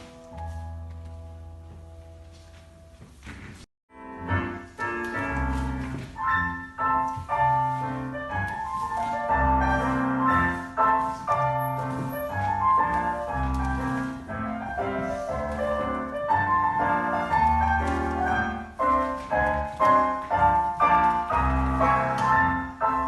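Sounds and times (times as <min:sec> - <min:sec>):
classical piano music: 0:00.0 - 0:23.0.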